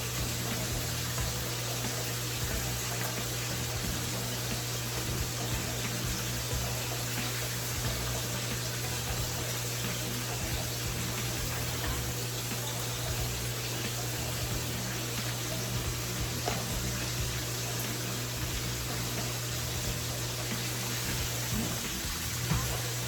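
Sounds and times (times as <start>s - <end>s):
chicken deep-frying sizzle: 0.0s - 23.0s.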